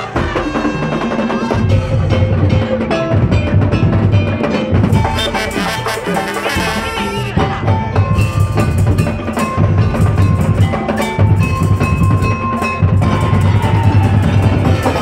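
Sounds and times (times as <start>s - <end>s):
high held melody: 0.0s - 15.0s
pounding drum ensemble: 0.0s - 15.0s.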